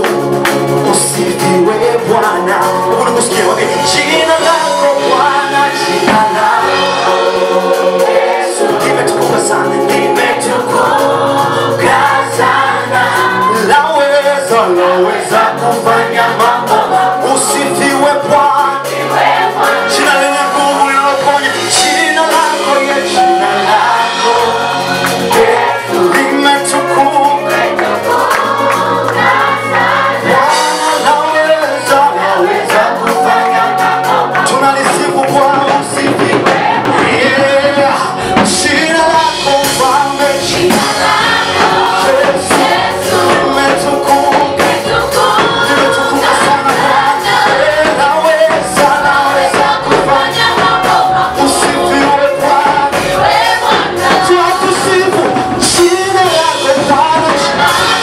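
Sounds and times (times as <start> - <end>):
choir and congregation singing: 0.0 - 58.0
deep bass line: 0.0 - 58.0
live band accompaniment: 0.0 - 58.0
steady percussion beat: 0.0 - 58.0.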